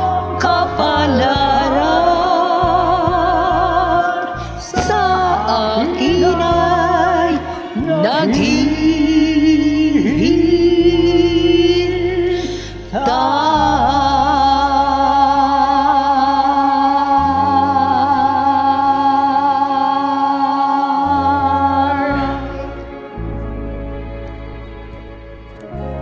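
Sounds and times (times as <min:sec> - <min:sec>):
man and woman singing duet: 0:00.0 - 0:22.9
karaoke backing track: 0:00.0 - 0:26.0.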